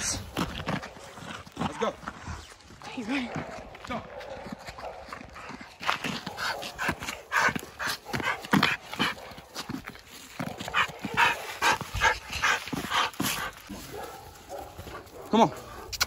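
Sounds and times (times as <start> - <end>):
dogs barking: 2.9 - 16.0.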